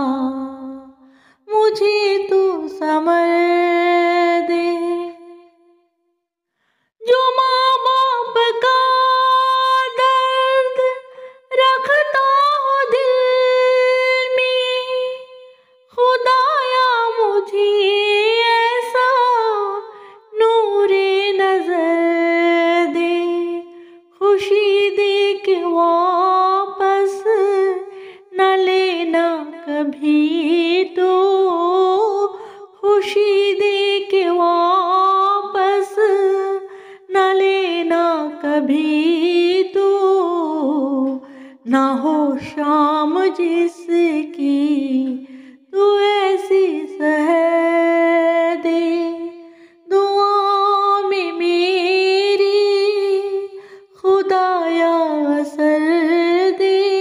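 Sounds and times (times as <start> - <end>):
woman singing unaccompanied: 0.0 - 5.4, 7.0 - 57.0.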